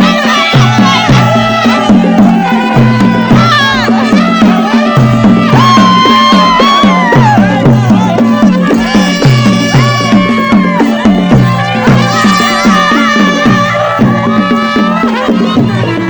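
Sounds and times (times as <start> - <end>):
reed pipe melody: 0.0 - 16.0
steady drum beat: 0.0 - 16.0.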